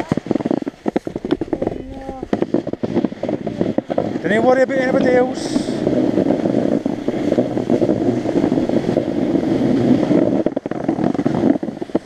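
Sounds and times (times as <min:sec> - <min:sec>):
skis scraping over packed snow: 0:00.0 - 0:12.0
wind rushing over microphone: 0:00.0 - 0:12.0.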